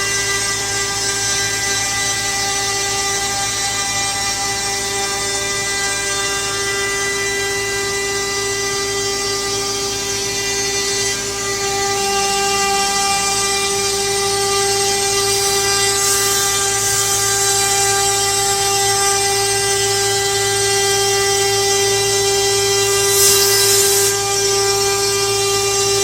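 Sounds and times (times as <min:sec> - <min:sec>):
wood router whining: 0:00.0 - 0:26.0.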